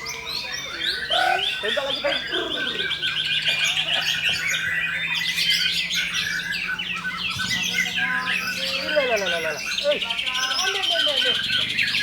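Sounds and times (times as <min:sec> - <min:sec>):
songbird singing chirps and trills: 0:00.0 - 0:12.0.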